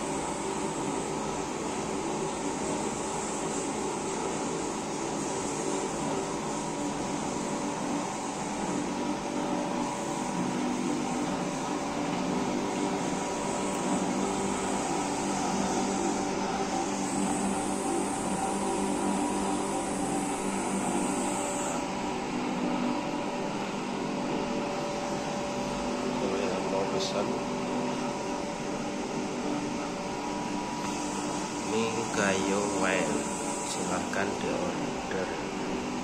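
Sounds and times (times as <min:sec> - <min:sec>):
coffee roaster motor hum: 0:00.0 - 0:36.0.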